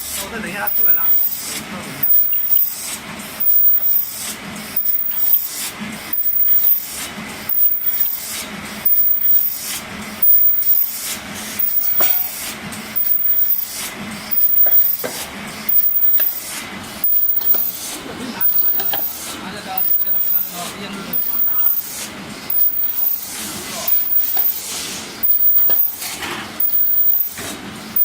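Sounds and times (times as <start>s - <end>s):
paper cup machine hissing and clattering: 0.0s - 28.0s.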